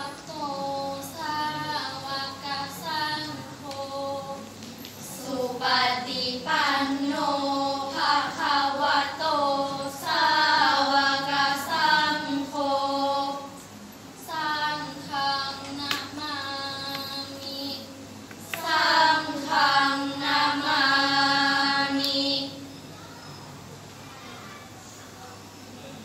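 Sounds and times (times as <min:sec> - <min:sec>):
girls chanting together: 0:00.0 - 0:22.6.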